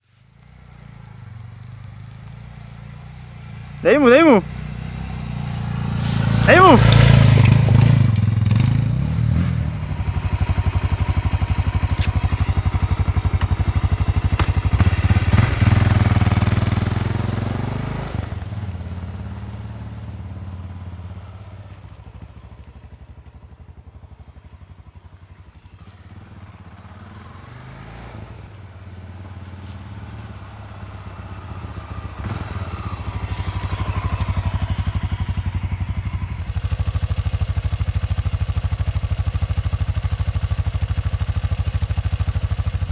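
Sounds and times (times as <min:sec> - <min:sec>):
motorcycle engine running: 0:00.2 - 0:42.9.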